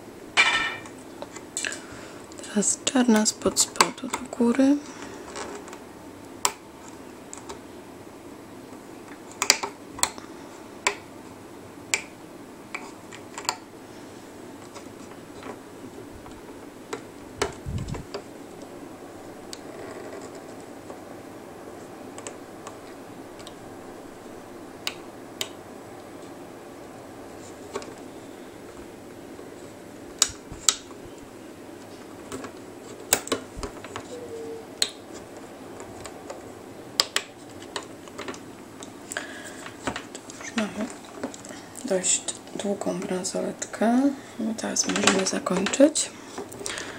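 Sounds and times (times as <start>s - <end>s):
low room hum: 0.0s - 46.9s.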